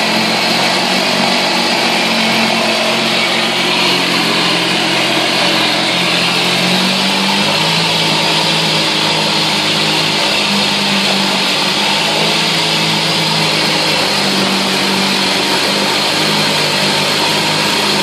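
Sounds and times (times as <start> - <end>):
outboard engine running: 0.0 - 18.0
propeller churning water: 0.0 - 18.0.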